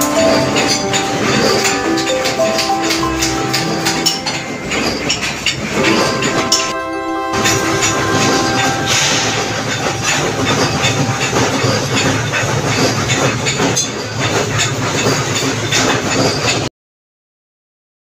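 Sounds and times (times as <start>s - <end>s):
metalworking machinery clatter: 0.0s - 16.7s.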